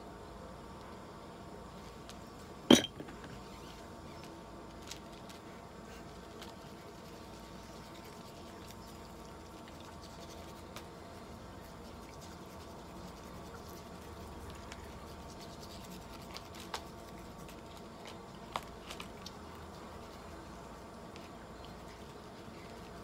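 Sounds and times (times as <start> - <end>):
room hum: 0.0 - 23.0
rustling and scratching: 2.8 - 23.0.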